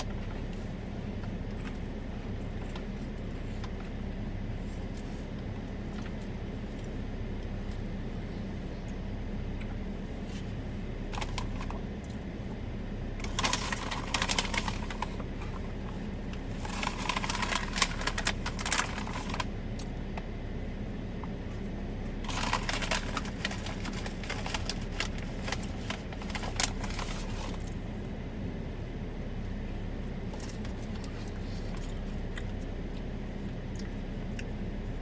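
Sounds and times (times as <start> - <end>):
low hum inside car: 0.0 - 35.0.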